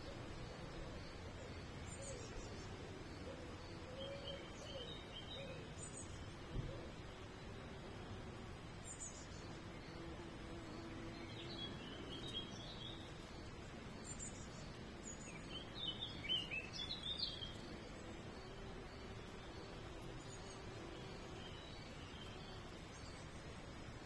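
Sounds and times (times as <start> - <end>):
outdoor background hiss: 0.0 - 24.0
songbirds chirping and twittering: 0.0 - 24.0.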